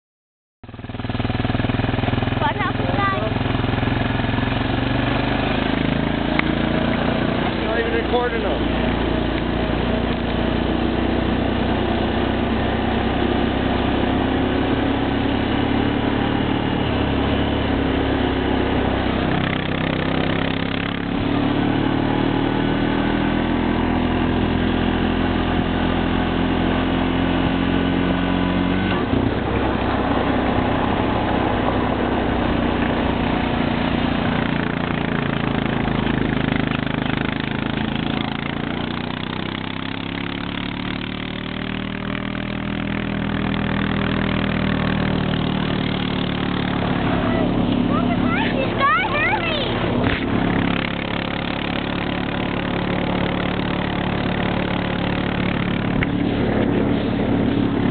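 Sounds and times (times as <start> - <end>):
vehicle engine running: 0.6 - 57.9.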